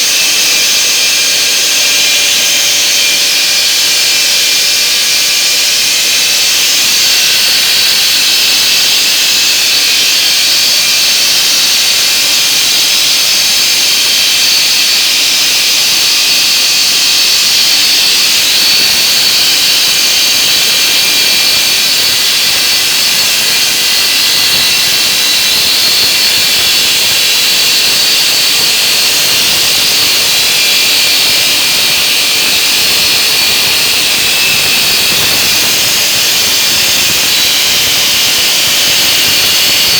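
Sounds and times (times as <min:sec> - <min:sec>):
stone-cutting saw whining: 0:00.0 - 0:39.9.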